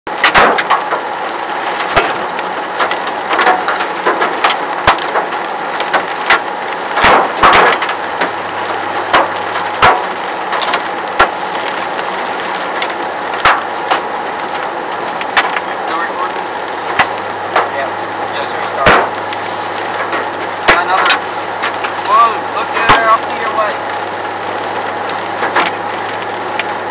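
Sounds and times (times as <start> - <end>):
hailstones striking hard surfaces: 0.2 - 26.9
heavy rain hiss: 0.6 - 26.9.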